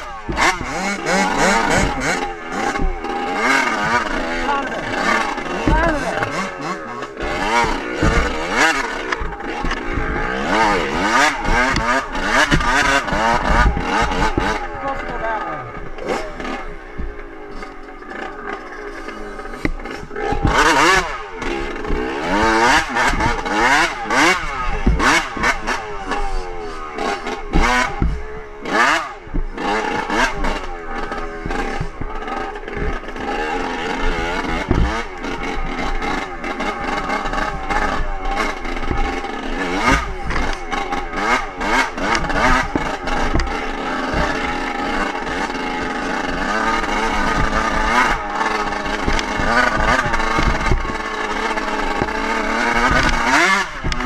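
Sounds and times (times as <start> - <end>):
dirt bike engine revving: 0.0 - 54.0
knocks and rattles from bumps: 0.0 - 54.0.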